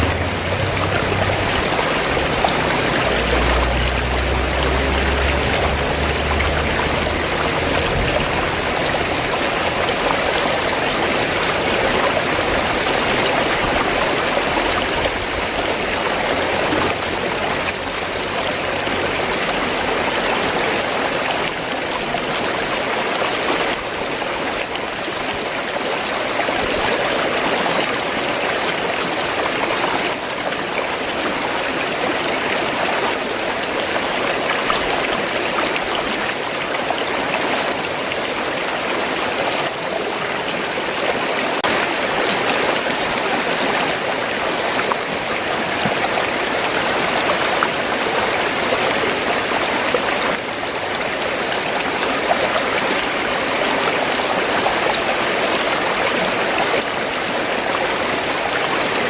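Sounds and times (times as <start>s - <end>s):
stream gurgling over rocks: 0.0s - 59.0s.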